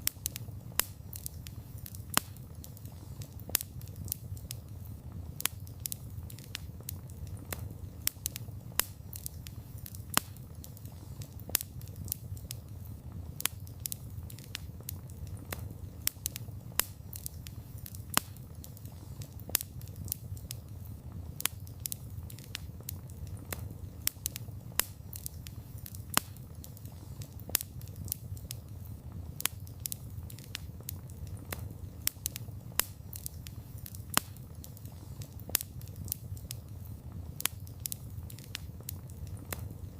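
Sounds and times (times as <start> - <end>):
low rumble of burning: 0.0 - 39.9
wood fire snapping and popping: 0.0 - 39.9.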